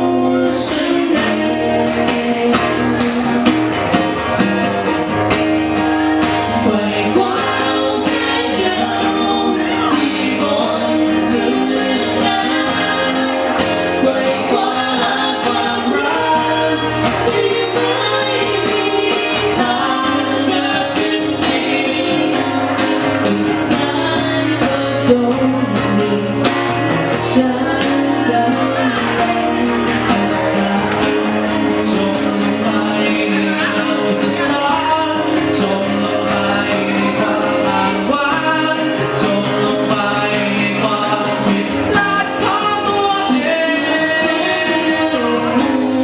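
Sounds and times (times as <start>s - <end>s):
person singing: 0.0s - 4.9s, 5.6s - 46.0s
guitar: 0.0s - 46.0s.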